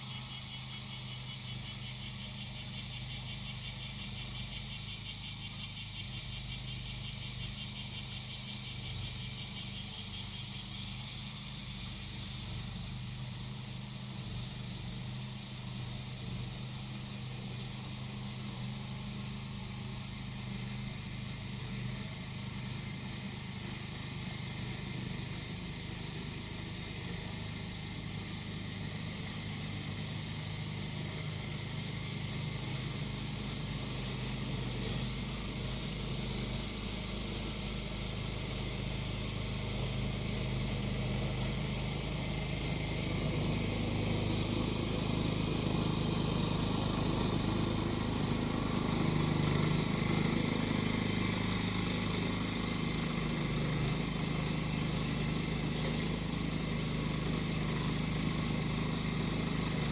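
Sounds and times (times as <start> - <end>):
cicadas buzzing: 0.0 - 59.9
grass cutter engine running: 0.0 - 59.9.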